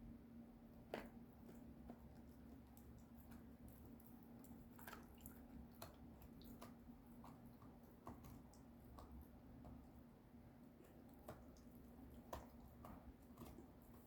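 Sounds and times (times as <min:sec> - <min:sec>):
puppy chewing wet clicks: 0:00.8 - 0:14.0.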